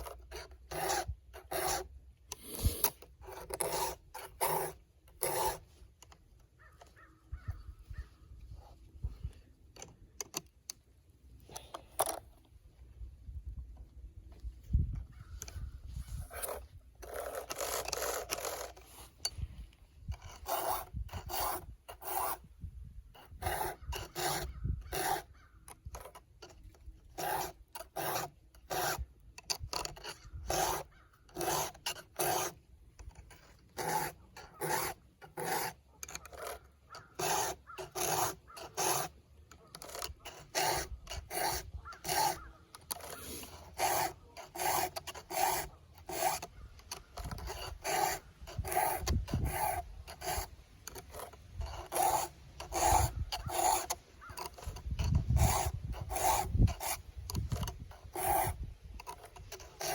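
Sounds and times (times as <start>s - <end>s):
file stroking chainsaw chain: 0.0s - 6.2s, 16.1s - 22.5s, 23.1s - 59.9s.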